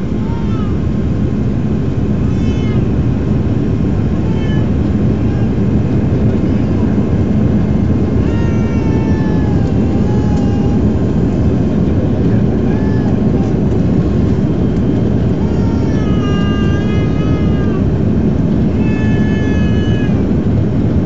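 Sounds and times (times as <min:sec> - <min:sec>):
airliner cabin noise: 0:00.0 - 0:21.0
whining engine tones: 0:00.0 - 0:21.0.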